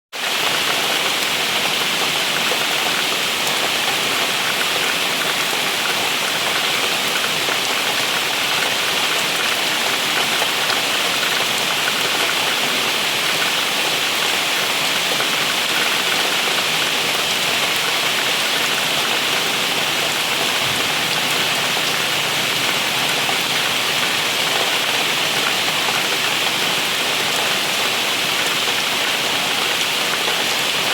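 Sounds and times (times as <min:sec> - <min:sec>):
steady rain falling: 0:00.2 - 0:30.9.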